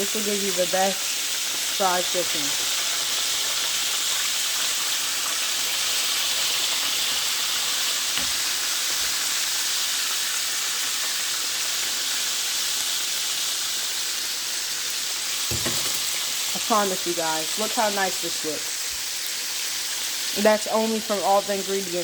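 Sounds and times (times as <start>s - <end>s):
chicken frying in hot oil: 0.0s - 22.0s.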